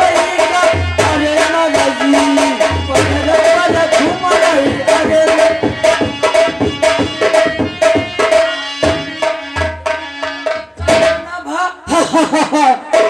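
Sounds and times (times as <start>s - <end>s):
hand drum fast rhythm: 0.0s - 11.3s, 11.9s - 13.0s.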